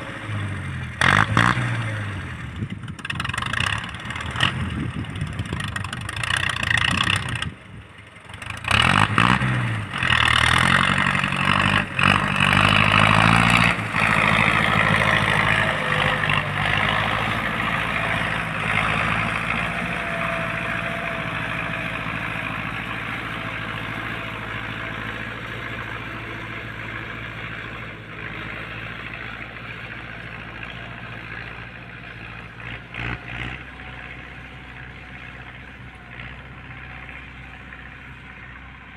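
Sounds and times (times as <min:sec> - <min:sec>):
tractor engine revving: 0:00.0 - 0:38.9.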